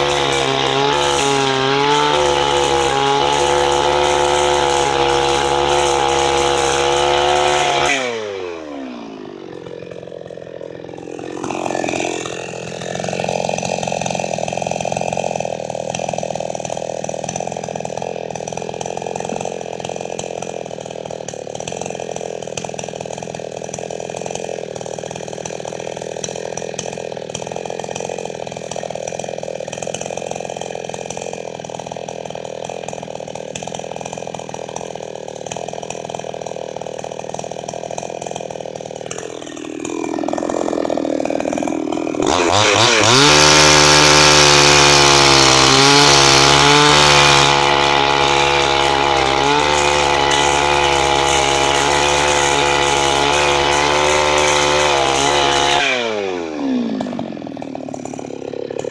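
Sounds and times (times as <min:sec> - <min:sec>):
chainsaw engine: 0:00.0 - 0:58.9.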